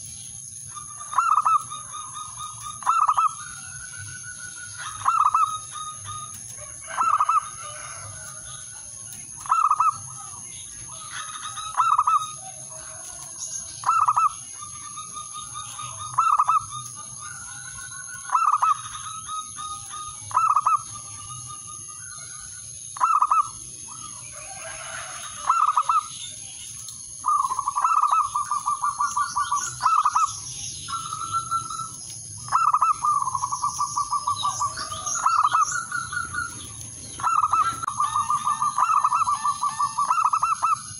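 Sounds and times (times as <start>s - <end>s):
dove cooing: 0.0s - 8.8s, 9.4s - 26.1s, 27.2s - 40.9s.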